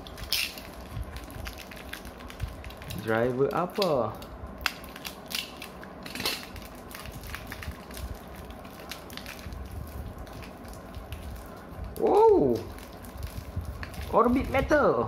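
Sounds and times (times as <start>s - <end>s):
plastic packaging crinkling: 0.0s - 14.8s.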